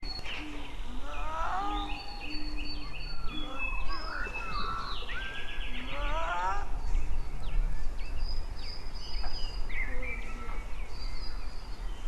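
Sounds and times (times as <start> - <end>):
birds singing and calling: 0.0 - 12.0.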